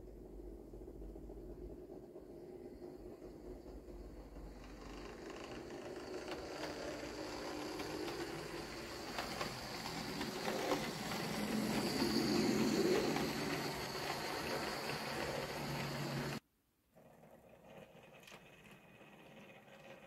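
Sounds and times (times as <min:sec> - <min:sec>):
model train rumbling on track: 0:00.0 - 0:16.4, 0:17.2 - 0:20.0.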